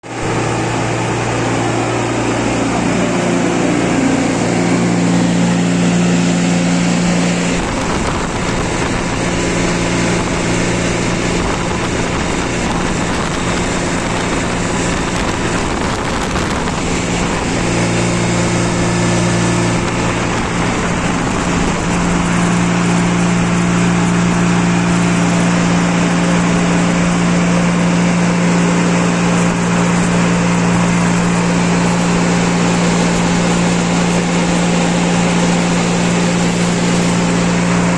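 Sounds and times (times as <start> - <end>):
refrigeration unit humming: 0.0 - 37.9.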